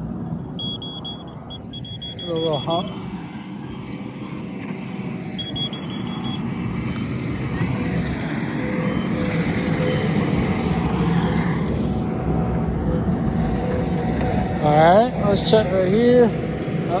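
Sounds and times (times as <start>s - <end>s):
diesel engine under load: 0.0s - 17.0s
rapid high-pitched beeps: 0.5s - 3.0s, 5.3s - 17.0s.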